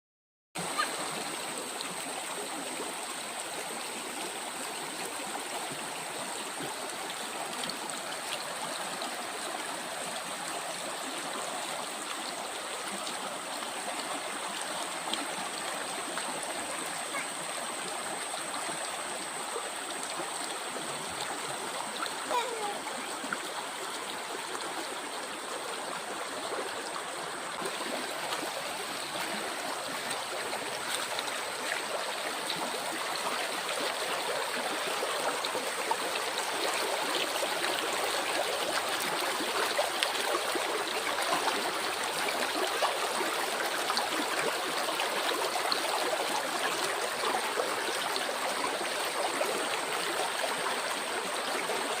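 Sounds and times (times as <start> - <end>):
stream babbling over stones: 0.6 - 52.0.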